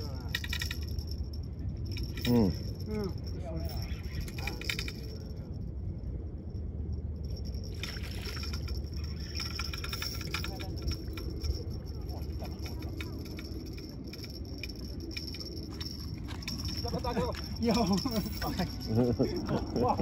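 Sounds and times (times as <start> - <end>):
fishing reel clicking: 0.0 - 1.2, 1.9 - 5.3, 7.3 - 20.0
steady low rumble: 0.0 - 20.0.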